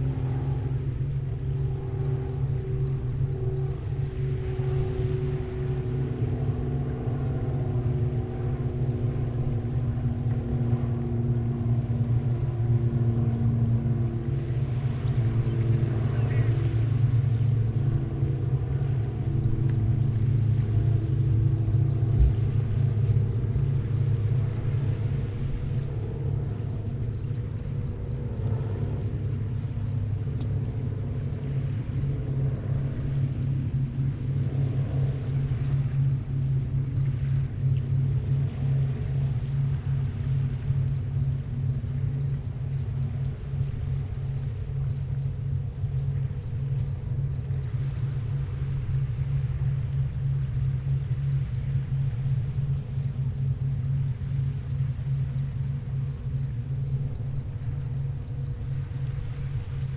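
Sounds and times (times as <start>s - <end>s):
engine running with low hum: 0.0s - 59.9s
insect chirping: 0.0s - 59.9s
small waves breaking: 0.0s - 59.9s.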